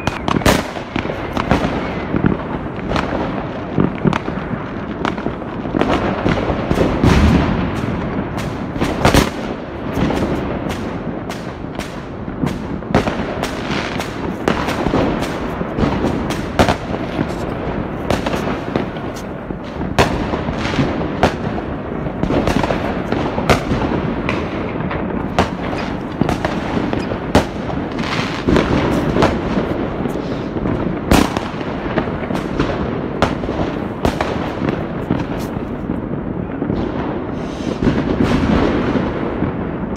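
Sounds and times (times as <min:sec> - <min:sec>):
distant fireworks rumble and crackle: 0:00.0 - 0:39.9
sharp firecracker bangs: 0:00.0 - 0:39.9.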